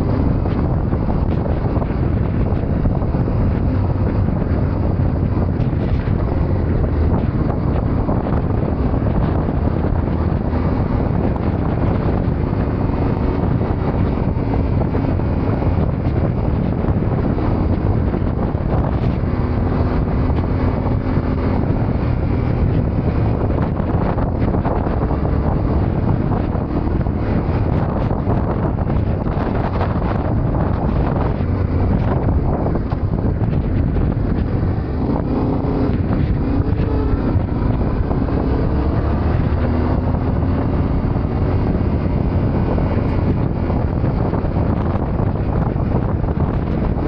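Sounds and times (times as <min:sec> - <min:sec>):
motorcycle engine running: 0:00.0 - 0:47.0
wind rushing over microphone: 0:00.0 - 0:47.0.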